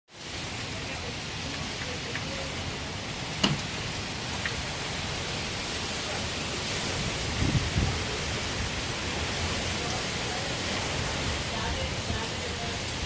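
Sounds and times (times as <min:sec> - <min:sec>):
wind and rain rushing: 0:00.1 - 0:13.0.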